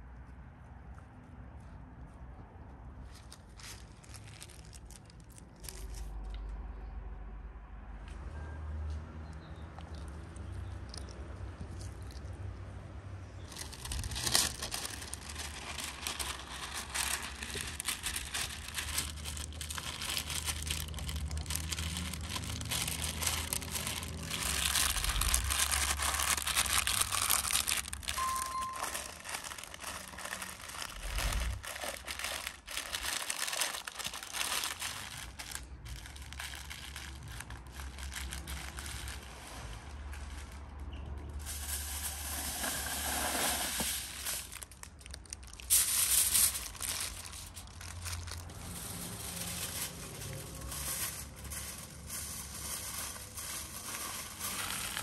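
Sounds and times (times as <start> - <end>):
paper crinkling: 3.2 - 6.3, 13.4 - 40.8, 41.4 - 55.0.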